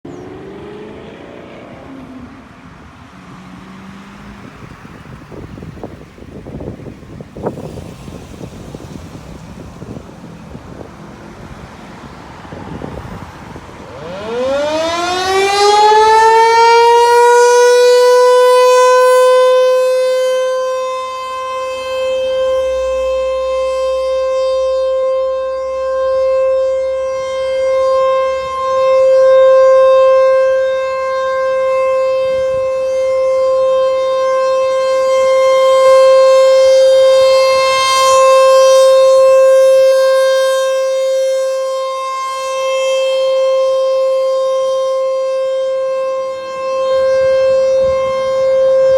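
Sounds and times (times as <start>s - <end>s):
warning siren: 0.0s - 48.9s.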